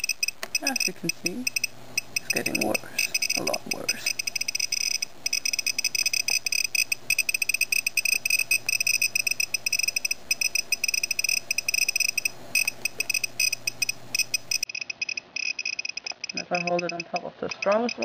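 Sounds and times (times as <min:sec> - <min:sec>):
geiger counter ticking rapidly: 0:00.0 - 0:18.0.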